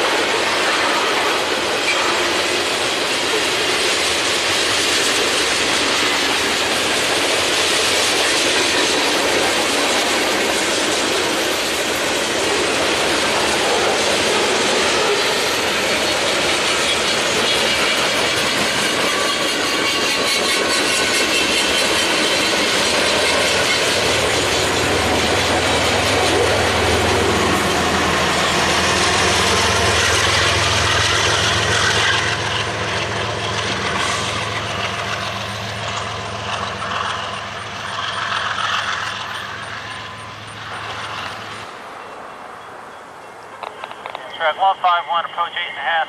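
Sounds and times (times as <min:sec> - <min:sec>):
train wheels rolling on rails: 0:00.0 - 0:44.4
locomotive engine droning: 0:00.0 - 0:45.7.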